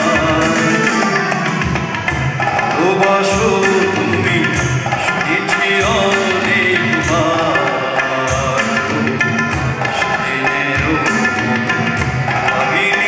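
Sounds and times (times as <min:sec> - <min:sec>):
man singing: 0:00.0 - 0:01.4, 0:02.5 - 0:13.0
small band playing: 0:00.0 - 0:13.0
tabla deep bass strokes: 0:00.0 - 0:13.0.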